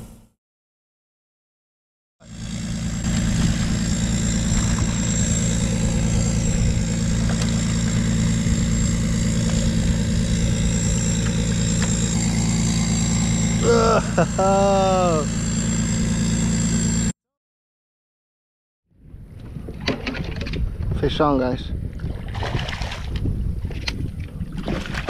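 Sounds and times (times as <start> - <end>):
motor-like hum: 2.2 - 17.2, 19.0 - 25.0.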